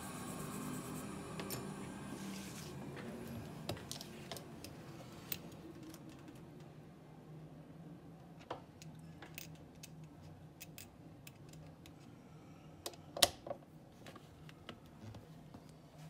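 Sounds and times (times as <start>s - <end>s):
machine hum with high whine: 0.0s - 16.0s.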